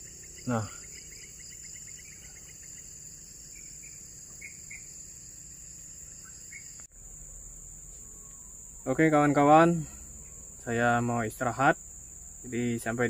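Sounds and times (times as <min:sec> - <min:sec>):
crickets and insects droning: 0:00.0 - 0:13.0.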